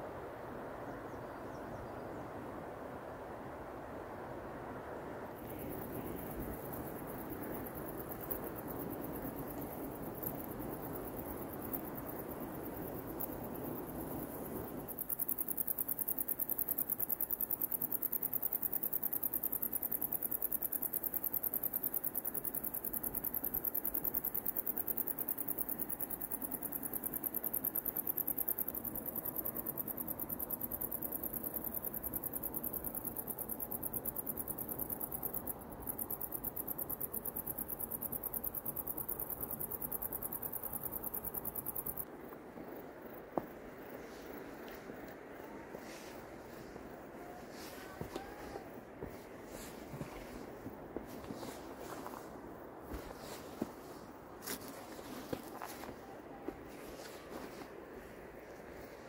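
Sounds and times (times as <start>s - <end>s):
soft outdoor hiss: 0.0s - 59.0s
insects chirring: 5.4s - 56.4s.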